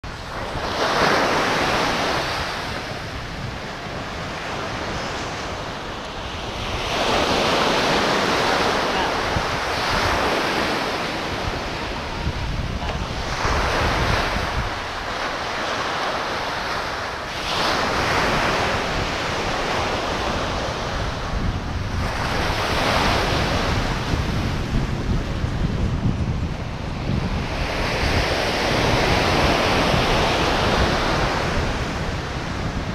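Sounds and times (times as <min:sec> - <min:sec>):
ocean surf breaking: 0:00.0 - 0:32.9
wind buffeting microphone: 0:00.0 - 0:32.9.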